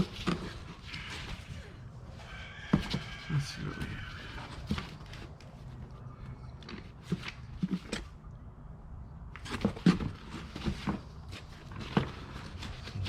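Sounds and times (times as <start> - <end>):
rummaging through papers: 0.0 - 8.1, 9.4 - 13.0
knocks and handling rustles: 0.0 - 8.3, 9.3 - 13.0.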